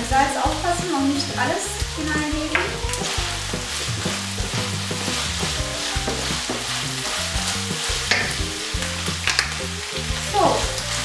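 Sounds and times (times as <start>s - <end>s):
meat sizzling in a frying pan: 0.0s - 11.0s
wooden spoon scraping pan: 1.2s - 11.0s.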